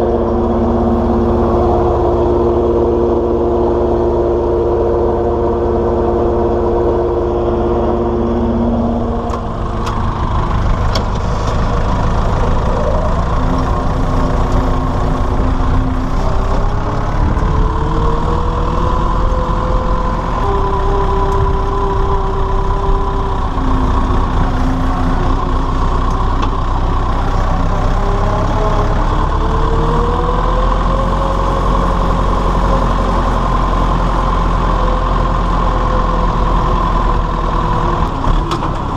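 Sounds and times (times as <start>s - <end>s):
whine changing pitch: 0.0s - 38.7s
tractor diesel engine running: 0.0s - 38.9s.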